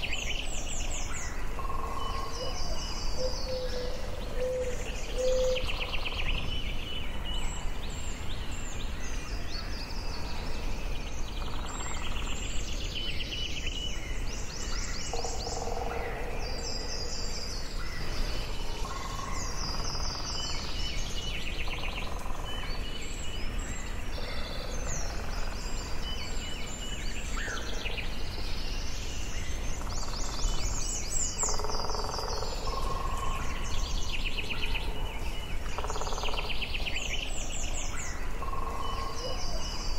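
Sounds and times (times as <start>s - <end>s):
birds singing and chirping: 0.0s - 39.9s
low outdoor rumble and hiss: 0.0s - 39.9s.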